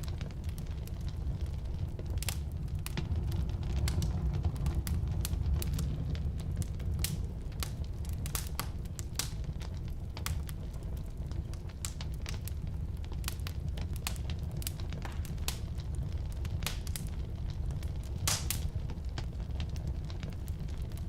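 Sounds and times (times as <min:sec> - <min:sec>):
firewood crackling and popping: 0:00.0 - 0:21.0
low rumble of flames: 0:00.0 - 0:21.0.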